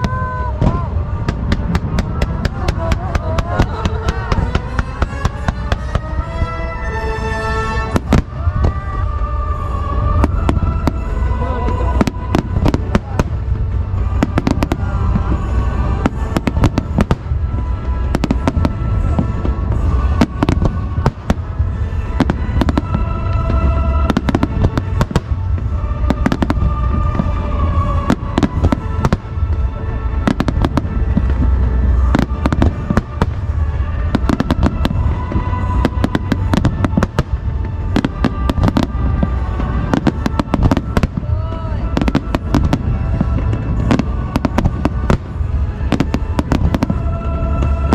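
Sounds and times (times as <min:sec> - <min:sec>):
deep rumble: 0:00.0 - 0:47.9
fireworks bursting: 0:00.0 - 0:47.9
music playing: 0:00.0 - 0:47.9.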